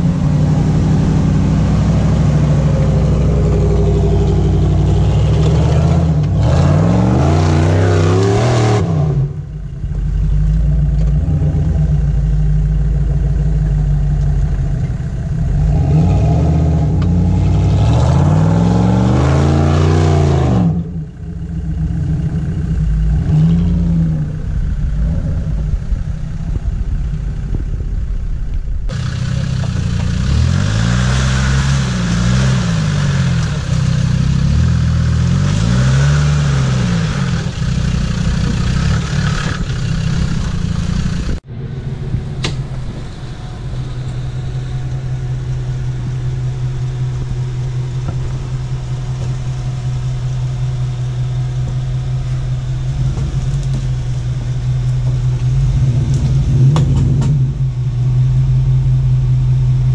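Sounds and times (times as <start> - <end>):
engine revving: 0.0 - 28.2, 28.9 - 59.9
engine running at low pitch: 0.0 - 59.9.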